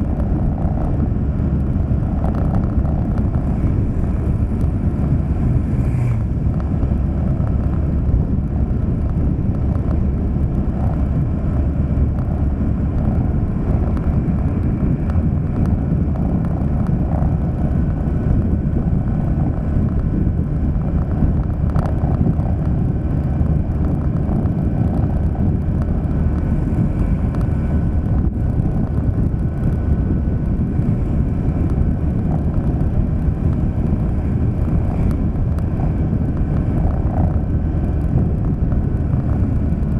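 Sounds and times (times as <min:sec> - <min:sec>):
tyres on road: 0:00.0 - 0:39.9
vehicle engine rumble: 0:00.0 - 0:39.9.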